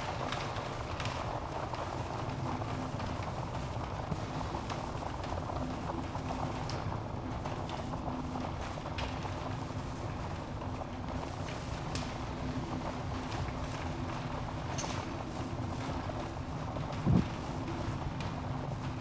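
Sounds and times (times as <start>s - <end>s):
rumble of fire flames: 0.0s - 19.0s.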